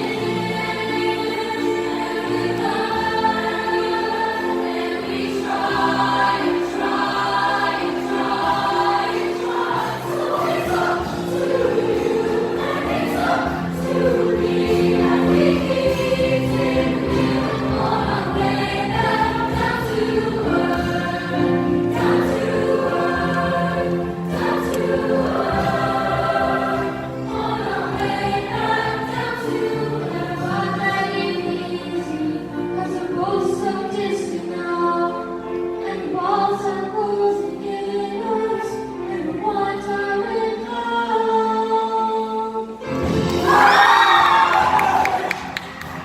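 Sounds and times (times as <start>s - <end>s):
backing music: 0.0s - 46.0s
choir singing: 0.0s - 46.0s.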